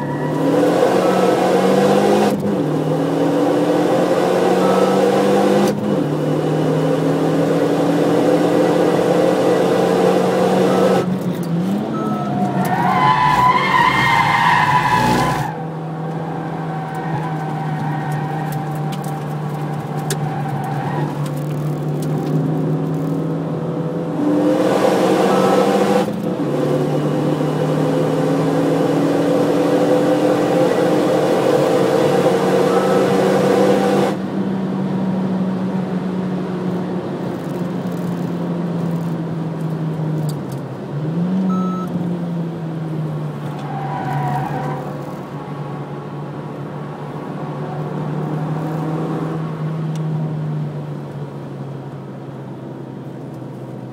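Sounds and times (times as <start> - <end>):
car engine revving: 0.0 - 51.0
wind and road noise: 0.0 - 53.9.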